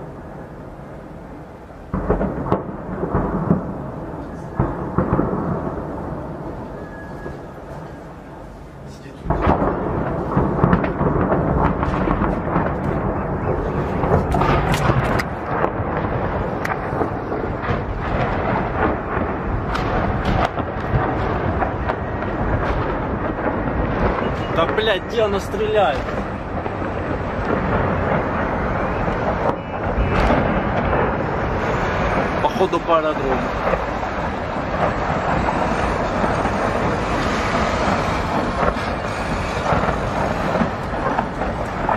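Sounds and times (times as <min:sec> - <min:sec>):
rolling rumble of explosions: 0:00.0 - 0:41.9
rocket detonation cracks: 0:01.7 - 0:41.9.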